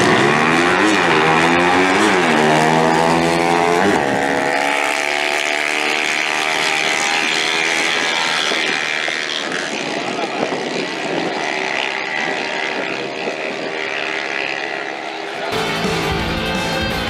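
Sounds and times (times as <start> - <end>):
motorcycle engines accelerating: 0.0 - 17.0.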